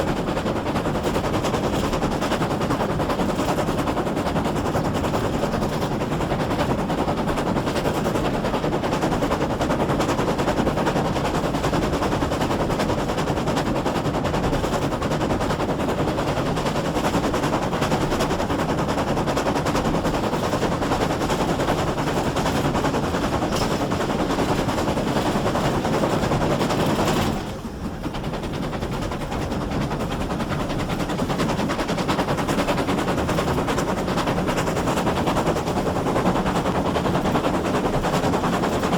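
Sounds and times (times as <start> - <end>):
steam locomotive running: 0.0 - 38.9.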